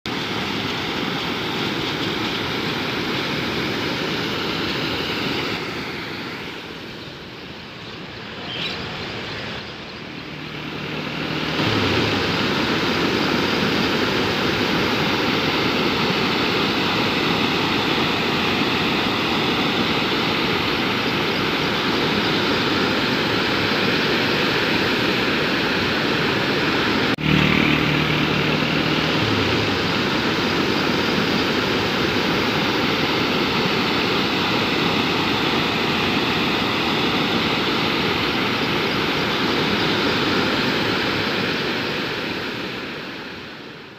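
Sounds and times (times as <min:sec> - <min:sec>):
fast-flowing floodwater rushing: 0:00.1 - 0:08.2, 0:08.9 - 0:43.7.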